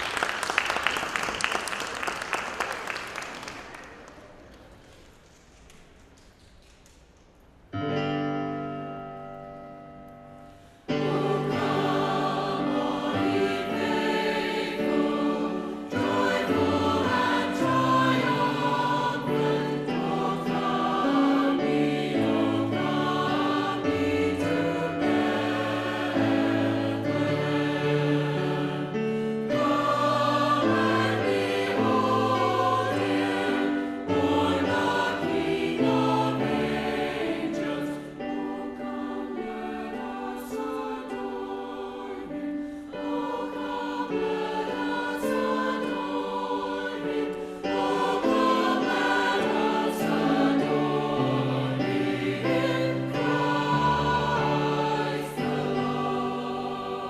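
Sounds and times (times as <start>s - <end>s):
choir singing in harmony: 8.4s - 57.0s.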